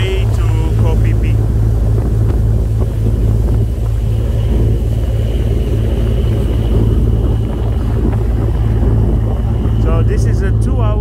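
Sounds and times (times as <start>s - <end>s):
faint high whine: 0.0s - 11.0s
ferry engines droning: 0.0s - 11.0s
water wake rushing: 0.0s - 11.0s.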